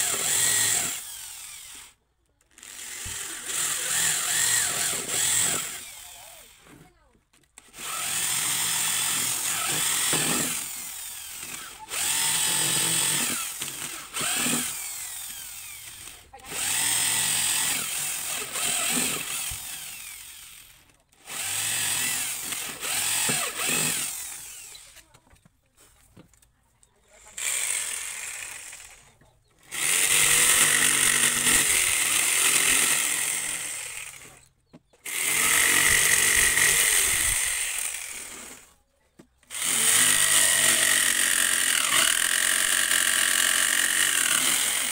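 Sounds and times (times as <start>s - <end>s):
electric drill boring wood: 0.0s - 6.8s, 7.6s - 25.1s, 27.3s - 38.8s, 39.4s - 44.9s
electric jigsaw cutting wood: 0.0s - 6.8s, 7.6s - 25.1s, 27.3s - 34.4s, 35.0s - 38.8s, 39.5s - 44.9s.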